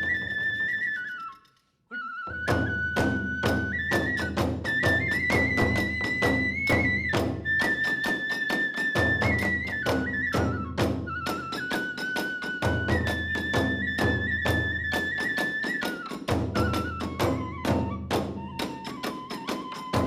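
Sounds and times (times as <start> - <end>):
bamboo flute melody: 0.0 - 20.0
drum beats: 2.3 - 20.0.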